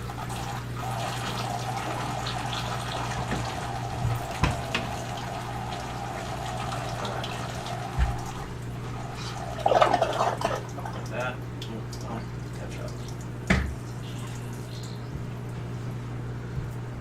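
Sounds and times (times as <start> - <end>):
water running down a drain: 0.0 - 15.6
steady low hum: 0.0 - 17.0.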